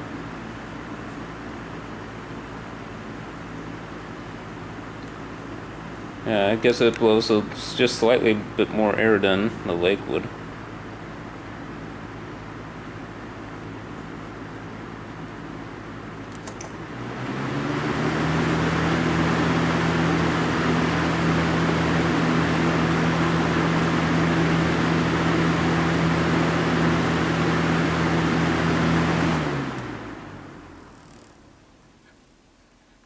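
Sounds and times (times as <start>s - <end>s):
electric fan humming: 0.0s - 33.0s.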